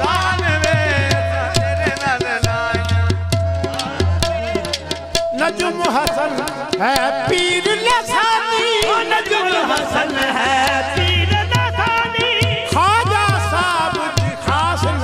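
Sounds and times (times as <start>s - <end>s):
harmonium tone: 0.0s - 15.0s
people singing ornamented phrases: 0.0s - 15.0s
tabla strokes: 0.0s - 15.0s.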